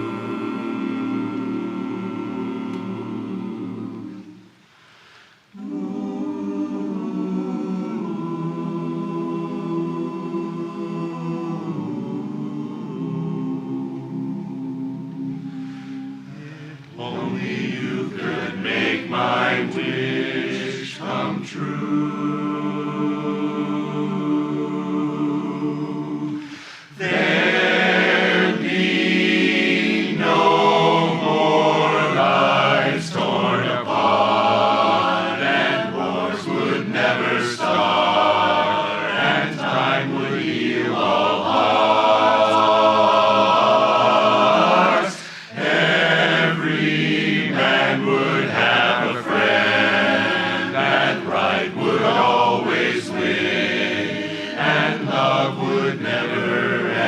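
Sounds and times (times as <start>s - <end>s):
men's chorus singing a cappella: 0.0s - 4.5s, 5.5s - 57.0s.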